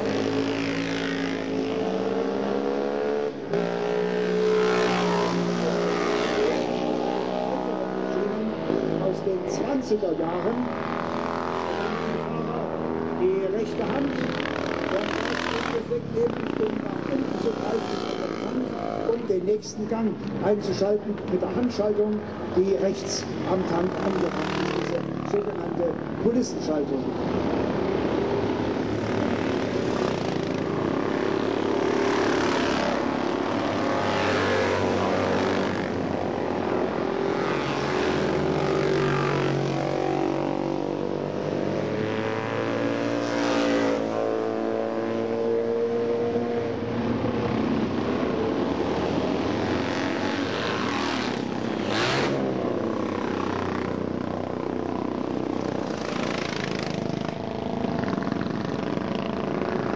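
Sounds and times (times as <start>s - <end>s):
two-stroke motorcycles passing: 0.0s - 59.9s.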